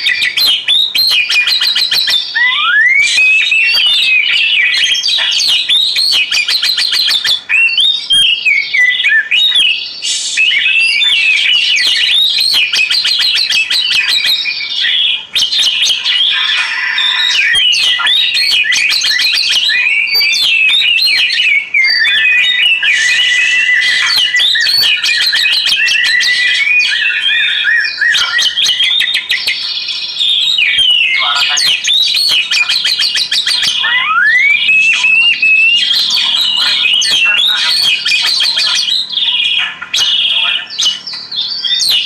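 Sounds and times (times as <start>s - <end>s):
bird singing chirps and trills: 0.0s - 42.0s.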